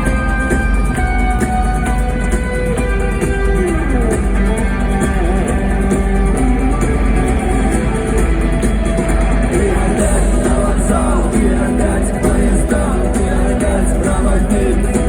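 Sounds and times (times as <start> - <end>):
guitar music with sliding melody: 0.0 - 15.0.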